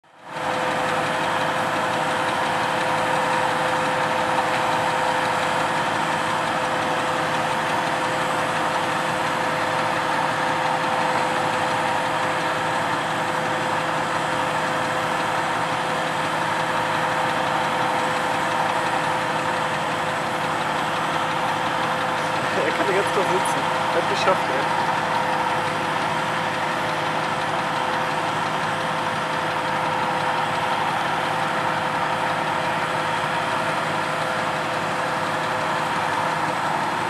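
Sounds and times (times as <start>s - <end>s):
paver engine droning: 0.2s - 37.0s.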